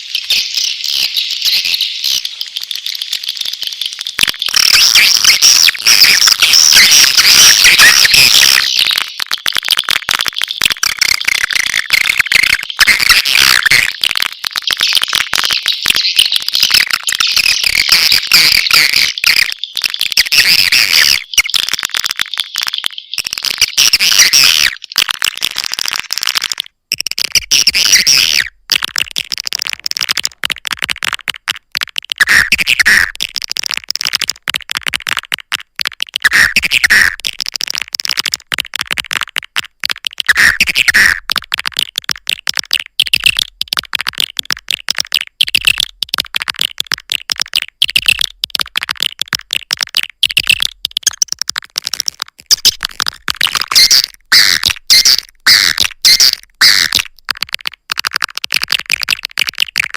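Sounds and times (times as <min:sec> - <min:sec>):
swiftlet chirps and clicks: 0:00.2 - 0:59.9.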